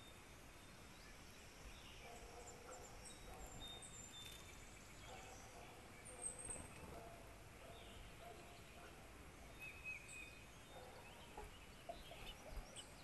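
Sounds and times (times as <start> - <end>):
quiet outdoor background noise: 0.0 - 13.0.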